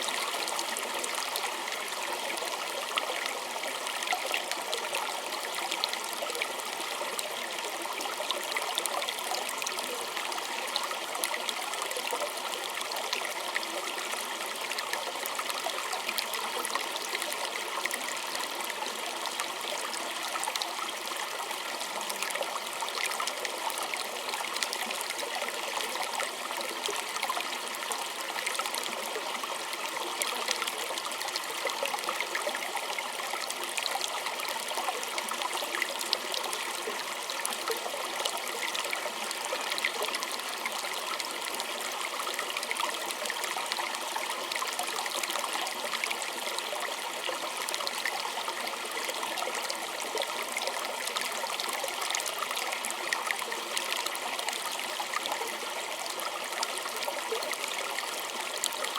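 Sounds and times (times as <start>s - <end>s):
stream babbling over stones: 0.0s - 58.9s.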